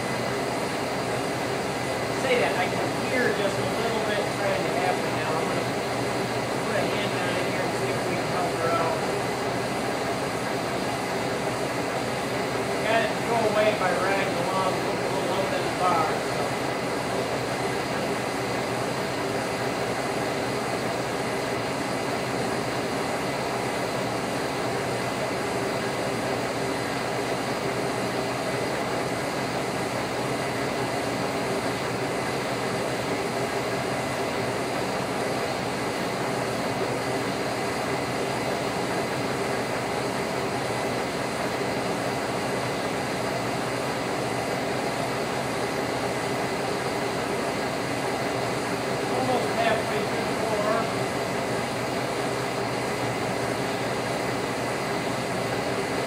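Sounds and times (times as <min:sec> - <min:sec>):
boring mill motor and gearing hum: 0:00.0 - 0:56.0.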